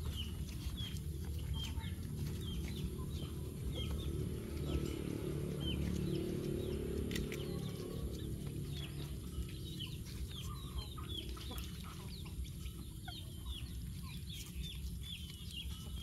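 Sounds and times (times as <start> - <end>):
low rumble: 0.0 - 15.8
chicks peeping: 0.0 - 16.0.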